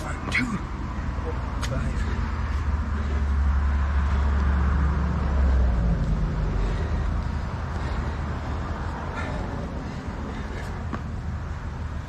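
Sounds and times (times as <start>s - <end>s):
outdoor background noise: 0.0s - 12.0s
passing vehicle engine rumble: 0.0s - 12.0s.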